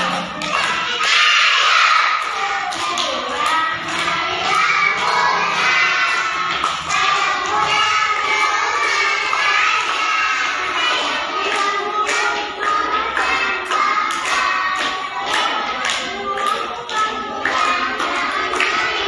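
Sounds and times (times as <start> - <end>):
children singing together: 0.0 - 19.0
hands clapping in rhythm: 0.0 - 19.0.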